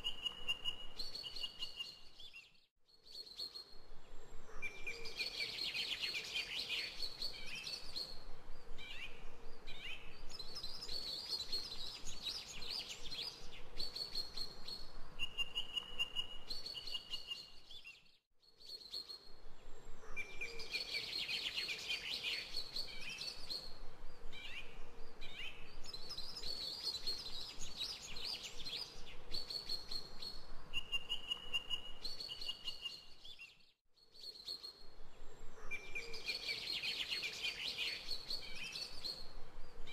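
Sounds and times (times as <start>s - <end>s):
recorded birdsong chirps and trills: 0.0s - 39.9s.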